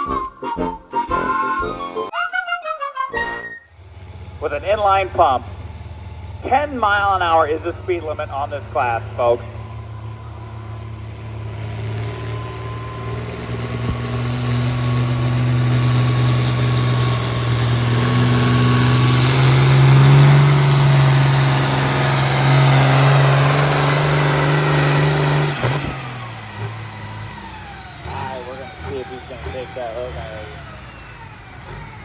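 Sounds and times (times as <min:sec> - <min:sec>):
diesel engine under full load: 0:00.0 - 0:02.1, 0:03.2 - 0:32.0.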